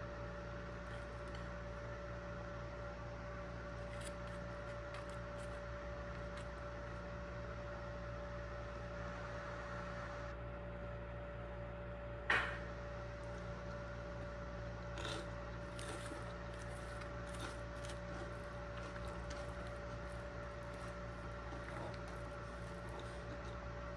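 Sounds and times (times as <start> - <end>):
electrical hum: 0.0 - 23.9.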